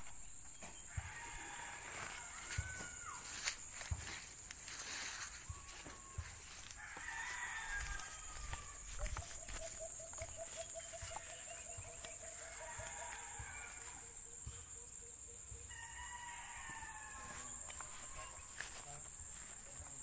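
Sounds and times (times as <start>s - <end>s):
roosters crowing: 0.6s - 14.5s, 15.7s - 20.0s.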